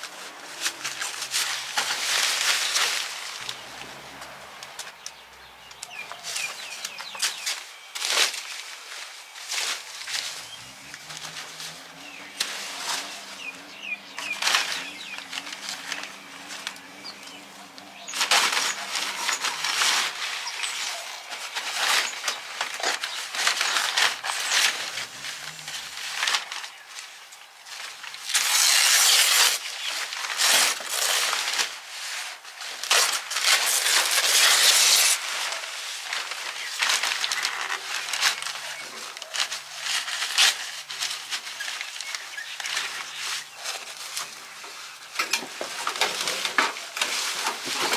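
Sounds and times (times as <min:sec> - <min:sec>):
rustling and crinkling handling noise: 0:00.0 - 0:47.9.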